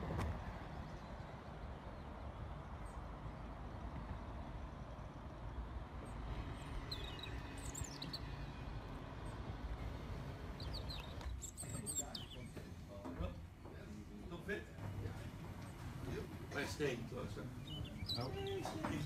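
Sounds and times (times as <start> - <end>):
low outdoor rumble: 0.0 - 19.0
small birds chirping: 0.7 - 19.0.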